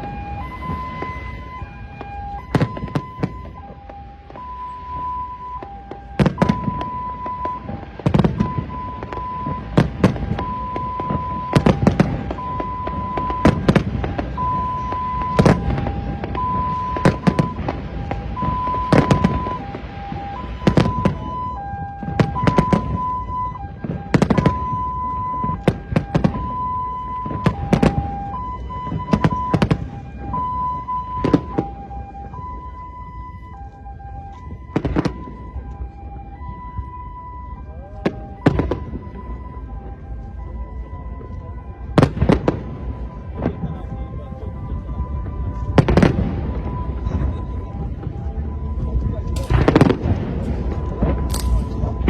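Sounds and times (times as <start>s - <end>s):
fireworks bangs: 0.0s - 32.6s, 34.3s - 36.9s, 38.0s - 40.0s, 41.2s - 52.0s.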